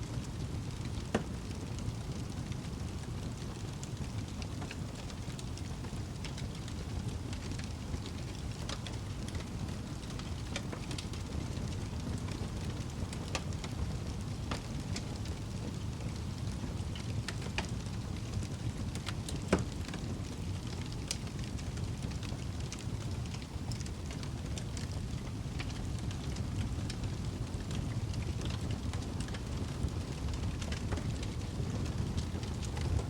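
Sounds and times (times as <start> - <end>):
burning wood crackling and popping: 0.0 - 33.0
fire flames rumbling: 0.0 - 33.0.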